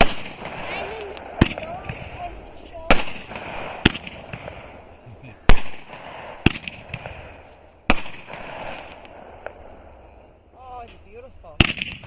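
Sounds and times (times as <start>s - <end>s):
firework bangs: 0.0s - 12.0s
firework crackling: 0.0s - 12.0s.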